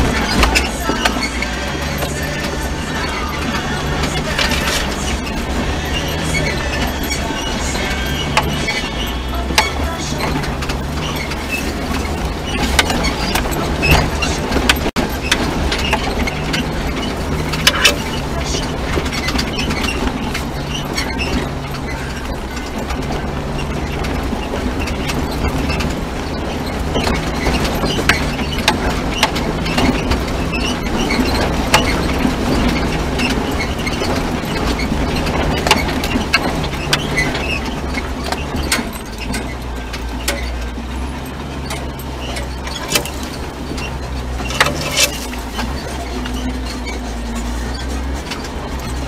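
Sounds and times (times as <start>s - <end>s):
body rattles and knocks: 0.0s - 49.0s
low engine rumble: 0.0s - 49.0s.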